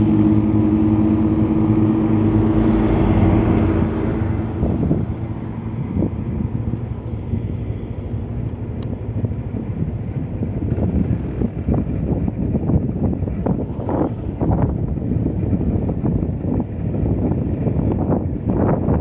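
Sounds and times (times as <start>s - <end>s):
scooter engine running: 0.0s - 19.0s
wind buffeting microphone: 0.0s - 19.0s.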